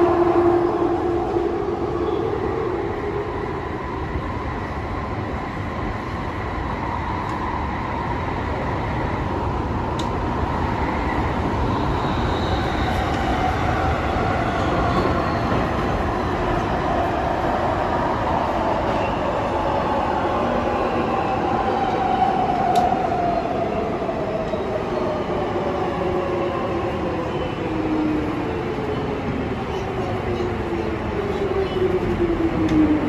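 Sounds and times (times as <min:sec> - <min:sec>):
train carriage rumble: 0:00.0 - 0:33.0.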